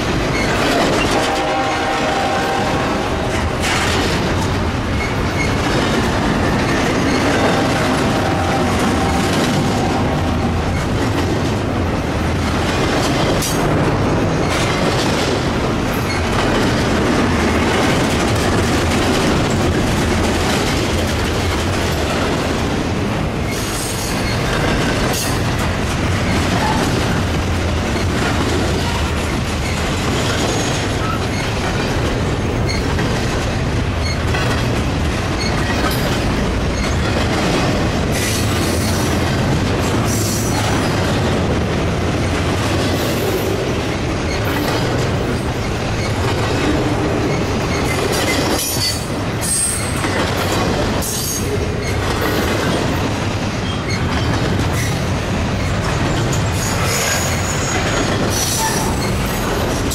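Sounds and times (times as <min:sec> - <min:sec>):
low train rumble: 0:00.0 - 0:59.9
train wheels clicking over rails: 0:00.0 - 0:59.9.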